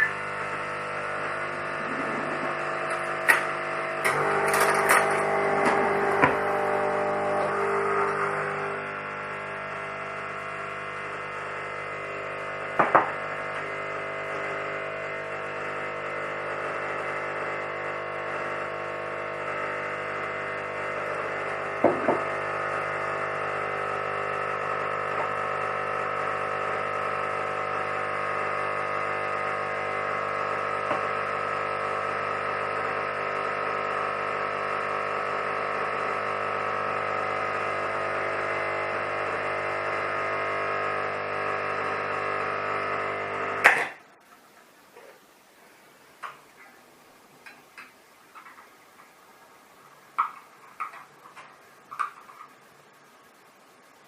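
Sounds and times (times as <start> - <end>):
espresso machine pump humming: 0.0 - 54.0.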